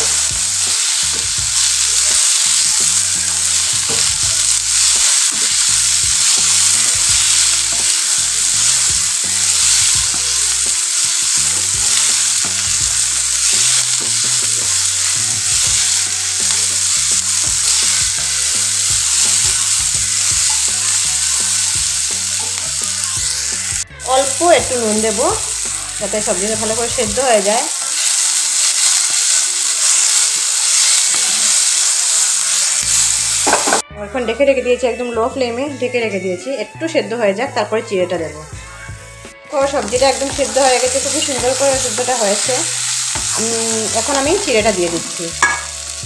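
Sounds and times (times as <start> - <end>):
vegetables sizzling in hot oil: 0.0 - 33.8, 39.5 - 46.0.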